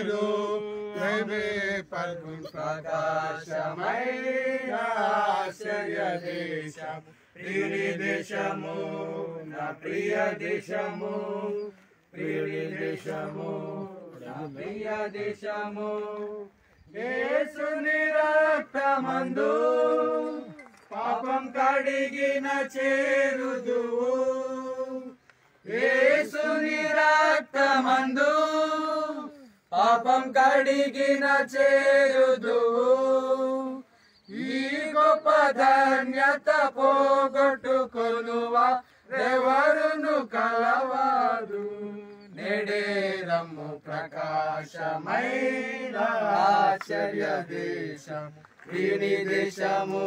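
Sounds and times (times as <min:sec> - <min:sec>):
voices singing a hymn: 0:00.0 - 0:50.0.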